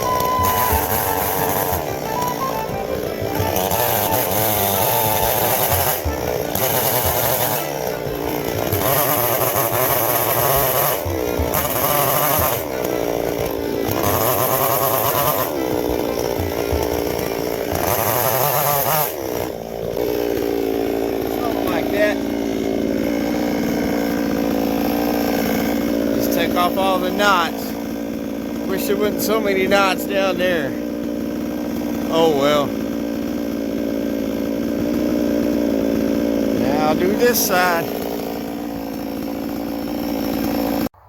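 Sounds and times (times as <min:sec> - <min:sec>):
chainsaw revving into cuts: 0:00.0 - 0:41.0.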